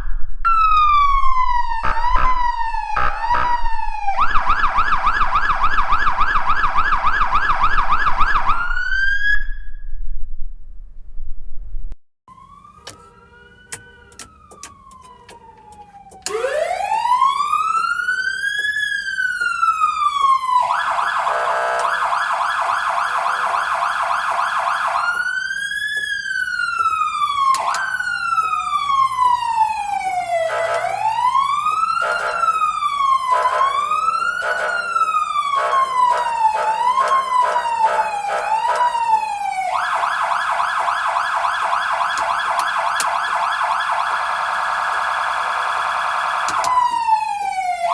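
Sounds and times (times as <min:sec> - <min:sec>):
fire engine siren: 0:00.4 - 0:09.7, 0:12.3 - 0:47.9.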